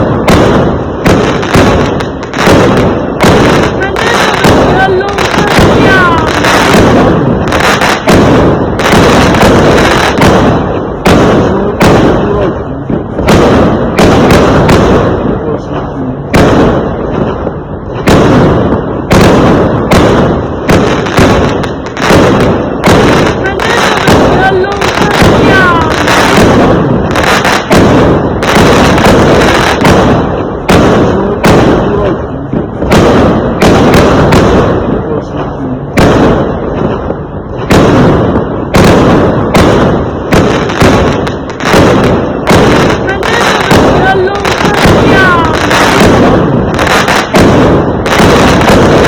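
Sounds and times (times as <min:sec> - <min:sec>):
fireworks banging: 0:00.0 - 0:49.0.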